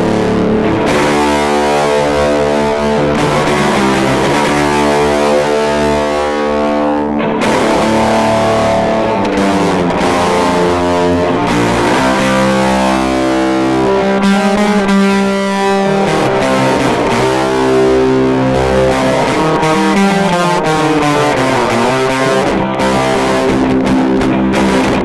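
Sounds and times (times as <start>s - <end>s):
fuzzed electric guitar chords: 0.0s - 25.0s.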